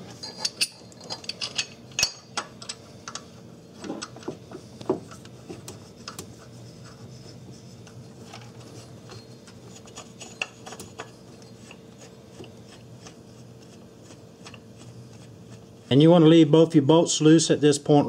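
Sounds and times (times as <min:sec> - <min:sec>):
clicks and scraping of hand work: 0:00.0 - 0:07.1, 0:07.8 - 0:15.7
steady low hum: 0:00.0 - 0:18.0.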